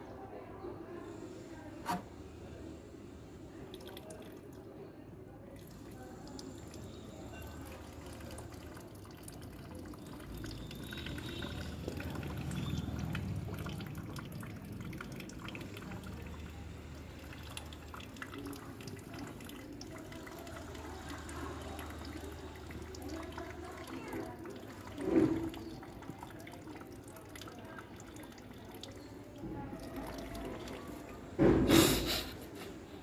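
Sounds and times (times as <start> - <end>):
water dripping and splashing: 3.7 - 4.7, 5.5 - 31.6.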